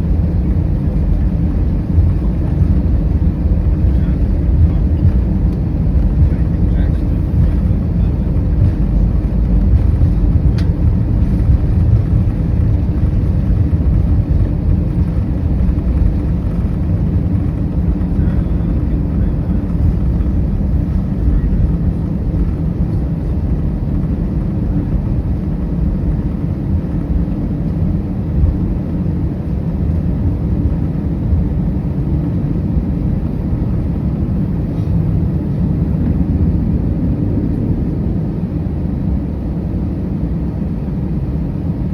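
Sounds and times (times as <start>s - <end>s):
jet cabin low rumble: 0.0s - 41.9s.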